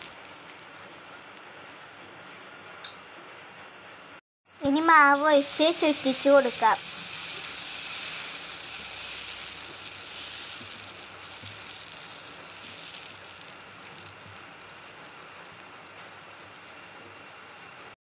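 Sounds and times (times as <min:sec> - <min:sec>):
batter sizzling on a griddle: 0:00.0 - 0:02.0, 0:04.7 - 0:18.0.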